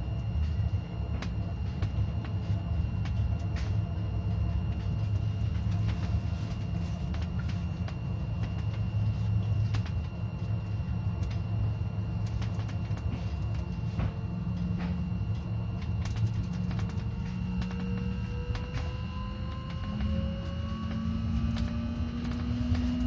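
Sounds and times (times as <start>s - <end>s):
thin high whine: 0.0s - 23.0s
tram motors and wheels rumbling: 0.0s - 23.0s.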